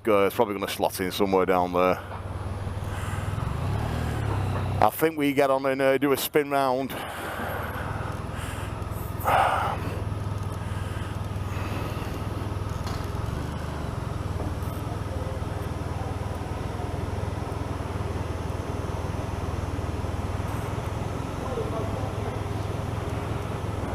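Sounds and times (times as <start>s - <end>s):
motorcycle engine low hum: 0.0s - 23.9s.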